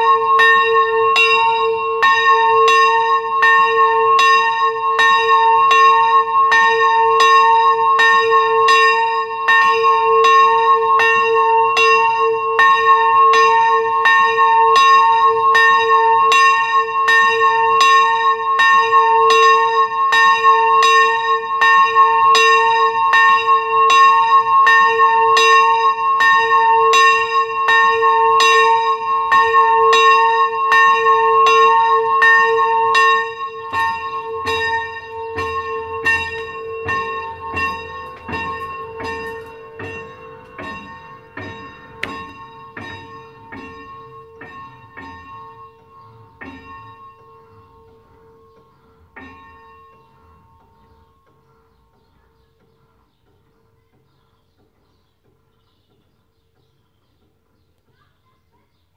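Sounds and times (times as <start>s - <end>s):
small church bell ringing: 0.0s - 57.0s.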